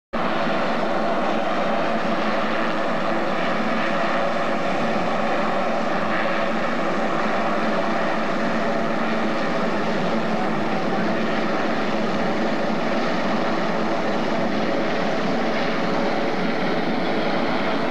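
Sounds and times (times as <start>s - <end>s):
aircraft engines running: 0.2s - 17.9s.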